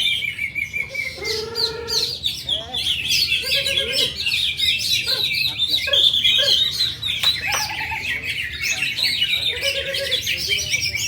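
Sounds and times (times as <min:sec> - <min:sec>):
caged birds singing chorus: 0:00.0 - 0:11.0.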